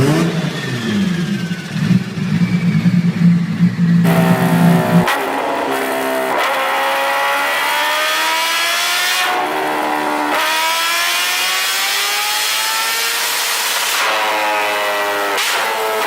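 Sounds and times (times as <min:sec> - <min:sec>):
engine accelerating through gears: 0:00.0 - 0:16.0.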